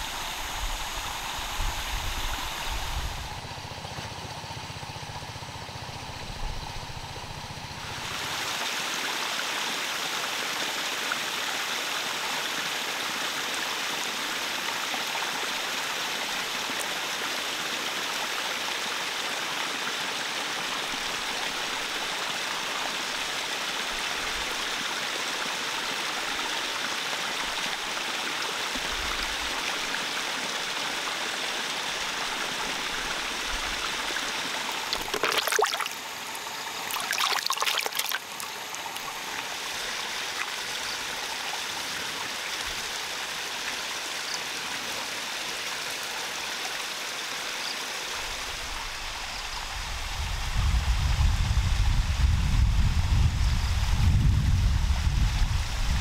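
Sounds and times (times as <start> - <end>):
water trickling into pond: 0.0 - 50.1.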